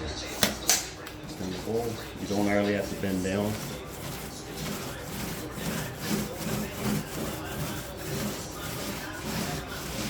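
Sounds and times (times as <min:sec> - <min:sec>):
paint roller swishing: 0:01.2 - 0:10.0.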